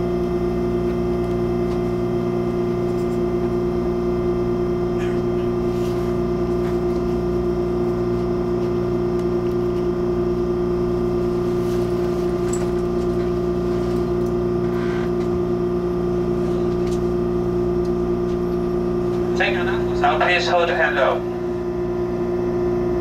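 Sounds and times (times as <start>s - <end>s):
electrical hum in train cabin: 0.0s - 23.0s.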